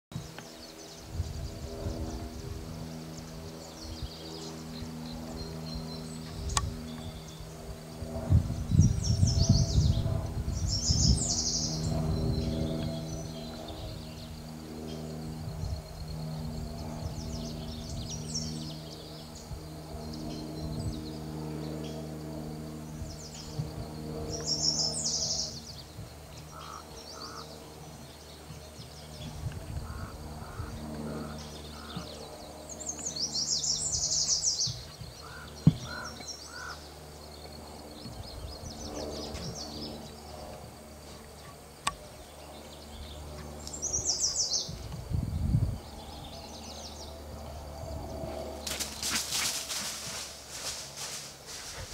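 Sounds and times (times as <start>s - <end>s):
steady low hum: 0.1s - 51.9s.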